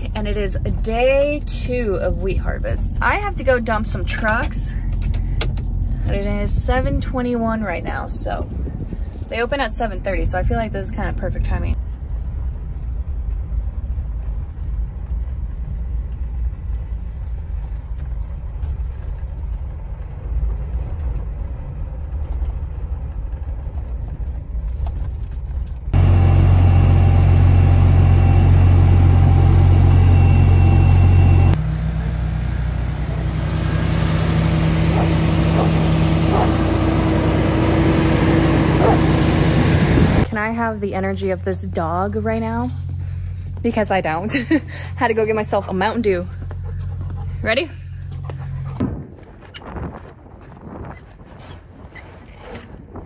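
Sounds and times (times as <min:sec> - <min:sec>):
loud truck engine hum: 0:00.0 - 0:23.6, 0:25.8 - 0:48.9
steady engine drone: 0:00.0 - 0:50.8
truck engine and road rumble: 0:00.0 - 0:53.0.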